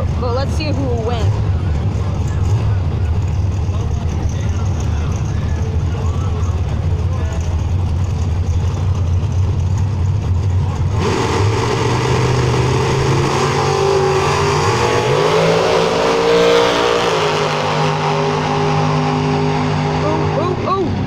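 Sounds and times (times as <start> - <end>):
drag car engines accelerating: 0.0 - 21.0.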